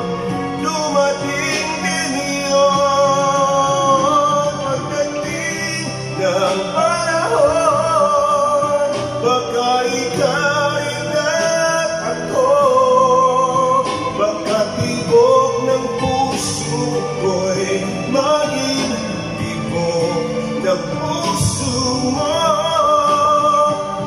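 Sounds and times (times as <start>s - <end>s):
backing music: 0.0s - 24.0s
man singing with vibrato: 0.0s - 24.0s.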